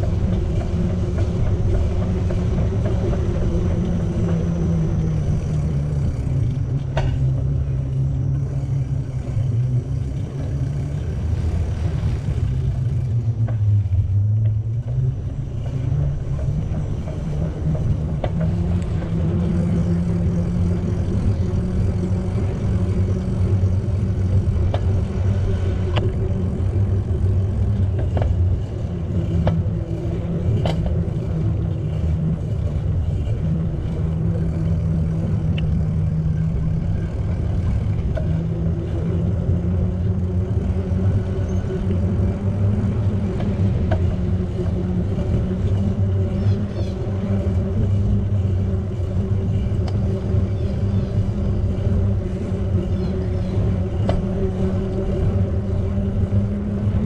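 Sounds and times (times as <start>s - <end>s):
bicycle tyres rolling on pavement: 0.0s - 57.0s.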